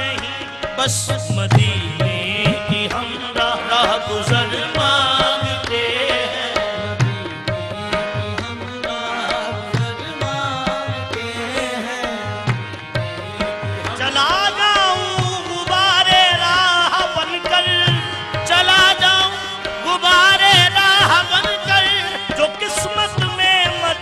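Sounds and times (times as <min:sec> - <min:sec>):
harmonium chords: 0:00.0 - 0:24.0
tabla drumming: 0:00.0 - 0:24.0.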